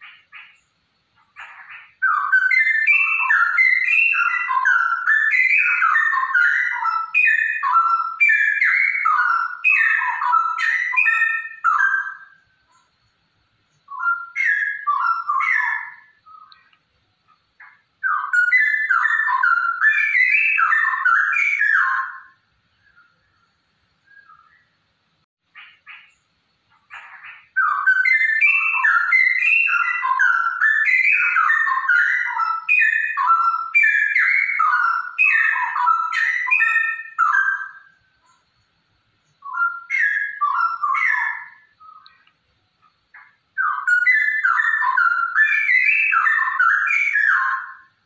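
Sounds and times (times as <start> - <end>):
bulbul singing: 0.0 - 24.8, 25.5 - 48.0.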